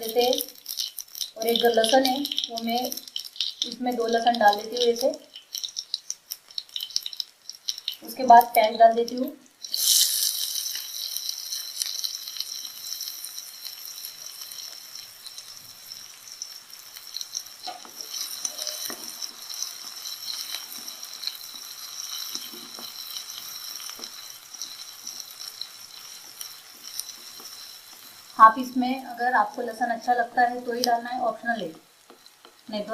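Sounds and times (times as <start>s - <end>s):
onion and garlic sizzling in oil: 0.0s - 32.9s
stirring scrapes and taps: 0.0s - 32.9s.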